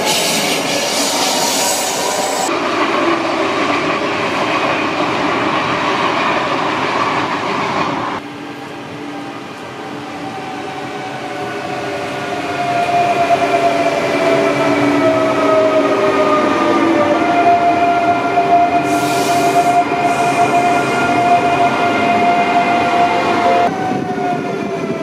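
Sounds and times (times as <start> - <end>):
arriving train whine: 0.0 - 25.0
train rolling past: 0.0 - 25.0.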